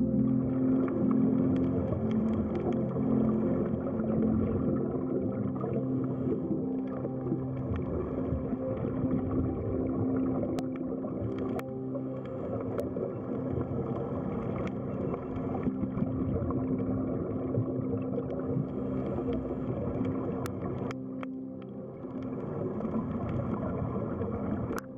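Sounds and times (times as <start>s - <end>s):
underwater low hum: 0.0s - 24.9s.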